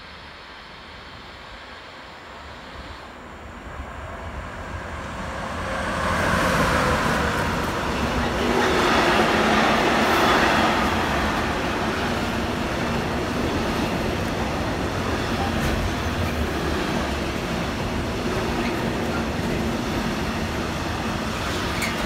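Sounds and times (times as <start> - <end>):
freight train passing: 0.0 - 22.0.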